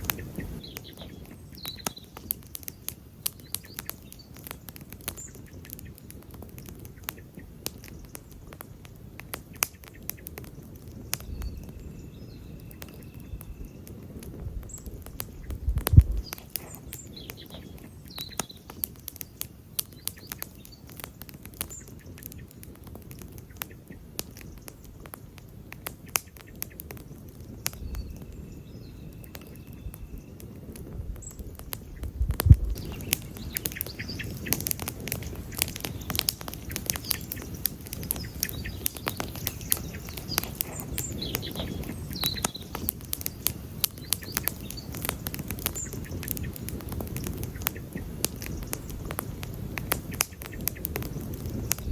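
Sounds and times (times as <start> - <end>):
campfire crackling and popping: 0.0 - 51.9
rush of flames: 0.0 - 51.9.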